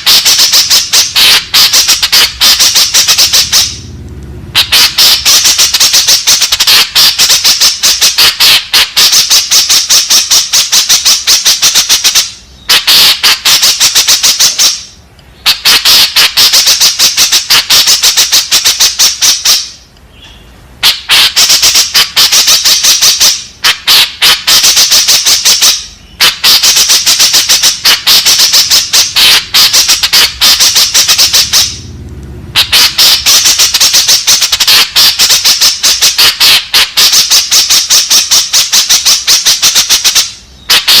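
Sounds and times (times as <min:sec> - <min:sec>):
bird harsh chatter: 0:00.0 - 0:03.8, 0:04.6 - 0:31.8, 0:32.6 - 0:41.0.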